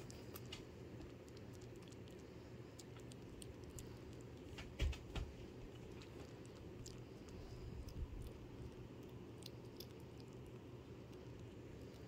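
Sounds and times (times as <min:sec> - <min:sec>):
kitten tongue lapping clicks: 0:00.0 - 0:12.0
low steady hum: 0:00.0 - 0:12.0.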